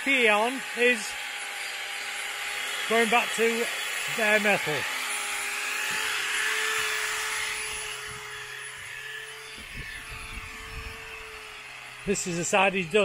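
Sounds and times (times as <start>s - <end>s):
angle grinder grinding metal: 0.0s - 13.0s.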